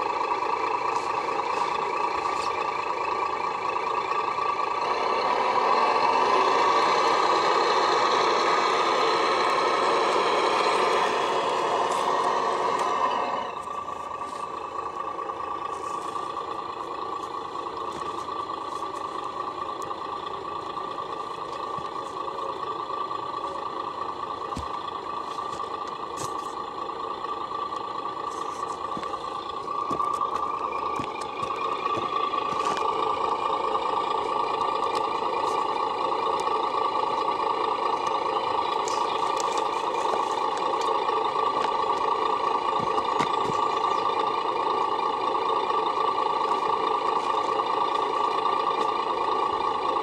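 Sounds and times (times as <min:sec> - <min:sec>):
toy truck electronic engine sound: 0:00.0 - 0:50.0.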